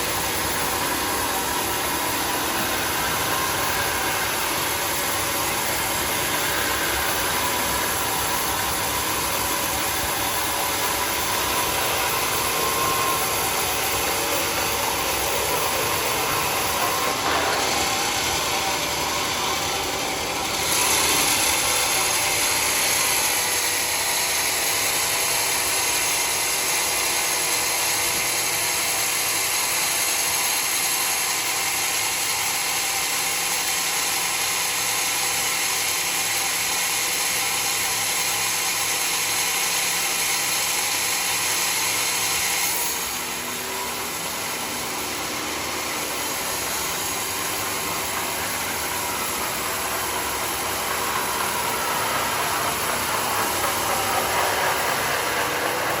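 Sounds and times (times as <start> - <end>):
saw blade cutting log: 0.0 - 56.0
saw motor running: 0.0 - 56.0.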